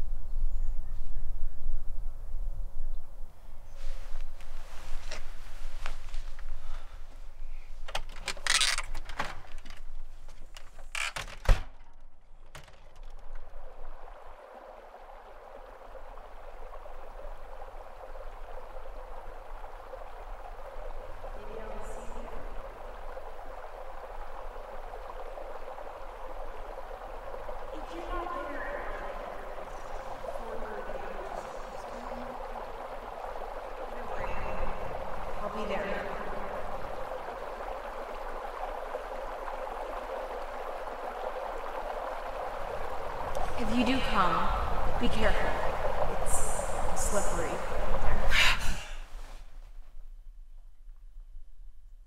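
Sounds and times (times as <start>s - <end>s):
water rushing: 3.7s - 49.6s.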